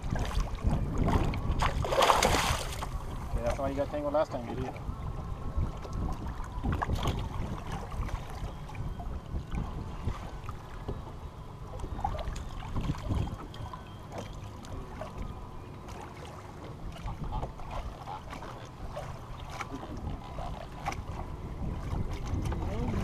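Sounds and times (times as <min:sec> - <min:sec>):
wind rumbling on microphone: 0:00.0 - 0:15.9, 0:16.6 - 0:23.0
water lapping at boat: 0:00.0 - 0:23.0.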